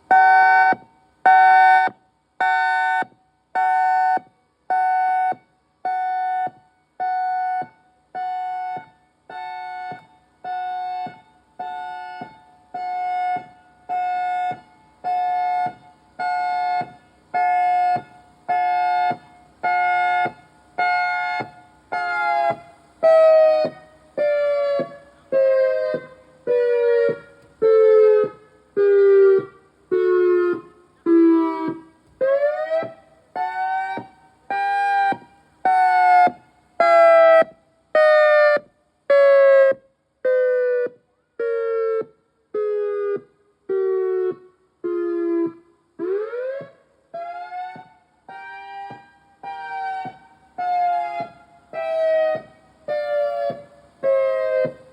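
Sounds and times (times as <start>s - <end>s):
warning siren wailing: 0.0s - 54.9s.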